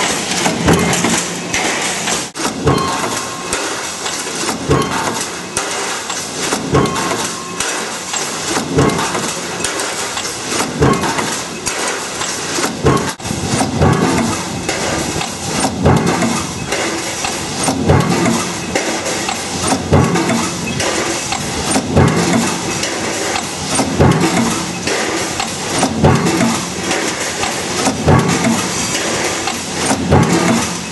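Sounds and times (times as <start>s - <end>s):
machinery clatter: 0.0s - 30.9s
power press striking: 0.0s - 30.9s.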